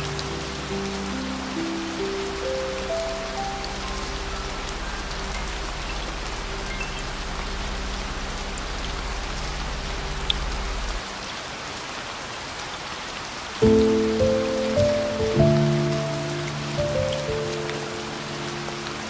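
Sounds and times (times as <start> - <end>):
low sustained music chord: 0.0 - 11.0, 13.6 - 19.0
heavy rain falling: 0.0 - 19.0.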